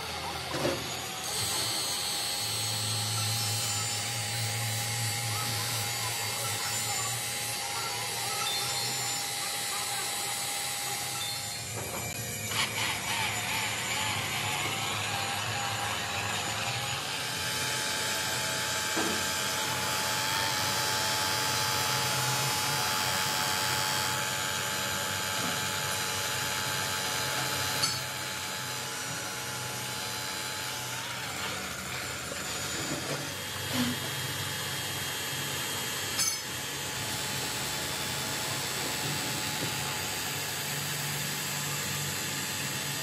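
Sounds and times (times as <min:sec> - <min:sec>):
angle grinder polishing metal: 0:00.0 - 0:42.4.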